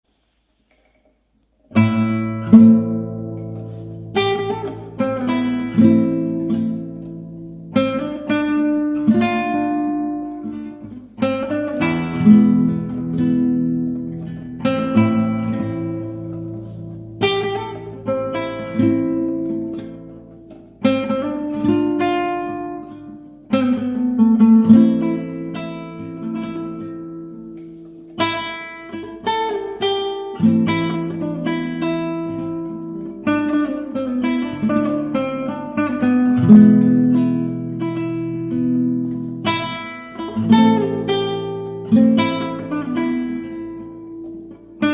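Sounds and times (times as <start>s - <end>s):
acoustic guitar ballad: 0.1s - 44.9s.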